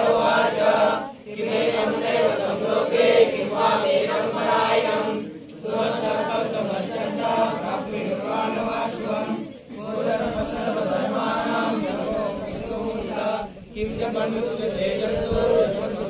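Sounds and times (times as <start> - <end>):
group of voices chanting: 0.0 - 16.0.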